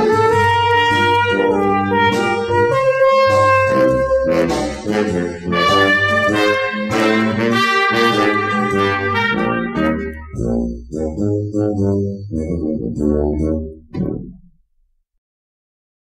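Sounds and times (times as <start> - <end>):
brass orchestral easy-listening music: 0.0 - 14.4.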